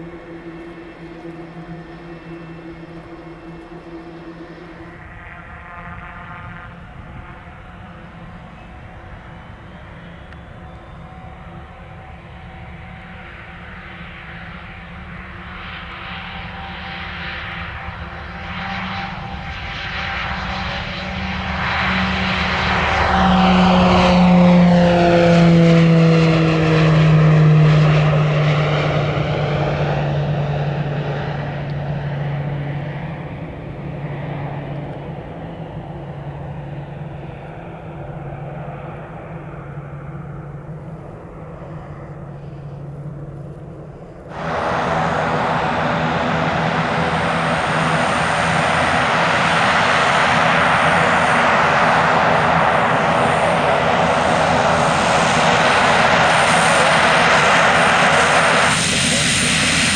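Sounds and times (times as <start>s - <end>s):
turboprop aircraft taking off: 0.0s - 59.9s.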